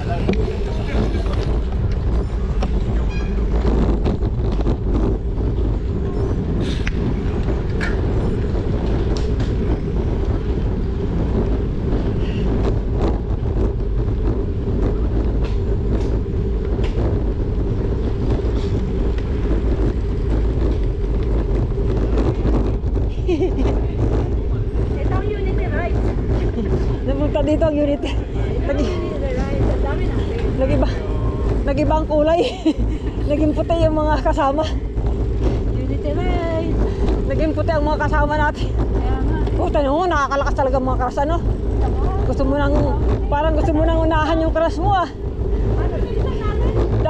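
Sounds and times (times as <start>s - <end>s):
low road rumble: 0.0s - 47.0s
wind rushing over microphone: 0.0s - 47.0s.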